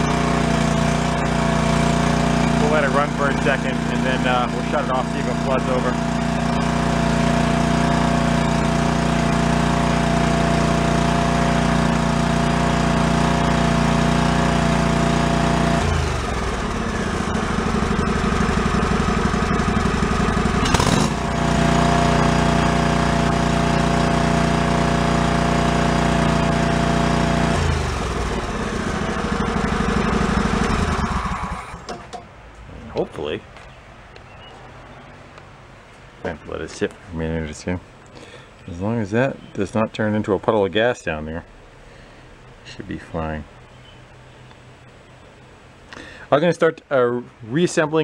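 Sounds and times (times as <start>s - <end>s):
garden tractor engine running: 0.0s - 33.1s, 37.4s - 46.2s.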